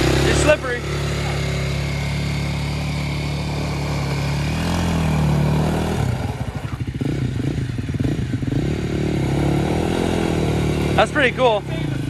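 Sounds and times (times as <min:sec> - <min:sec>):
quad engine revving: 0:00.0 - 0:12.0.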